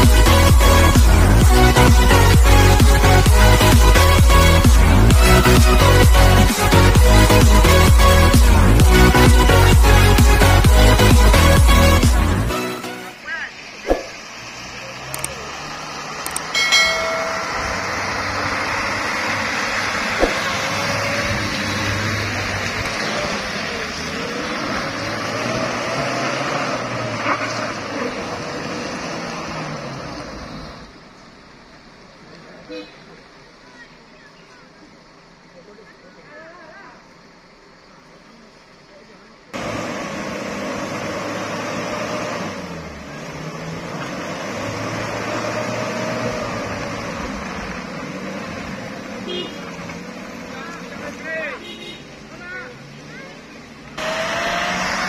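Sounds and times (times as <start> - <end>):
truck engine straining: 0.0 - 55.0.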